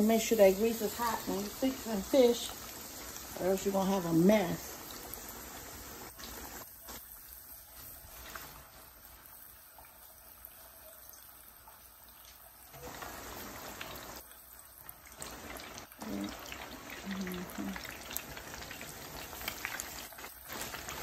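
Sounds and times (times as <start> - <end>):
grease sizzling in a pan: 0.0 - 21.0.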